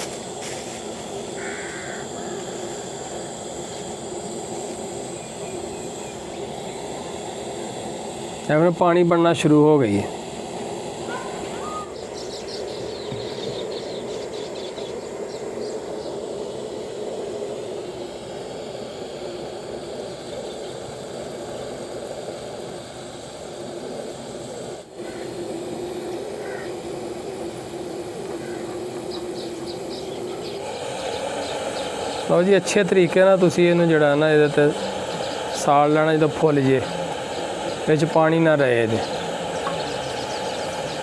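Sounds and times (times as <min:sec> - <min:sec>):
gas burner roaring: 0:00.0 - 0:41.0.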